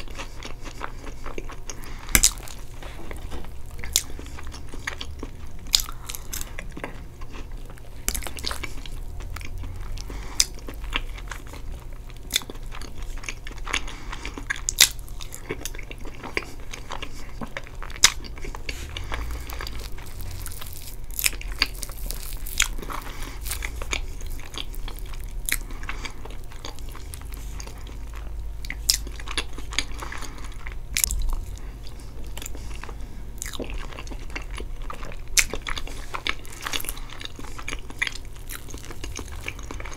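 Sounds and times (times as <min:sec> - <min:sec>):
chewing and wet mouth sounds: 0:00.0 - 0:39.9.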